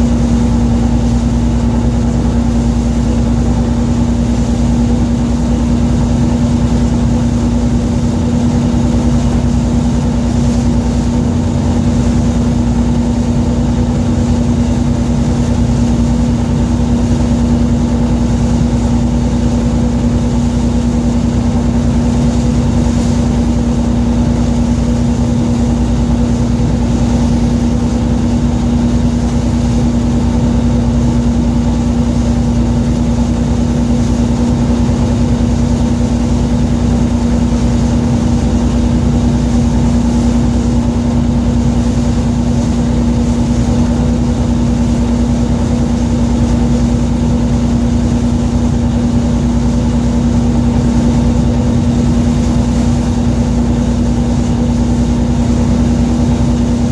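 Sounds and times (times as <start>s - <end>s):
boat engine droning: 0.0s - 56.9s.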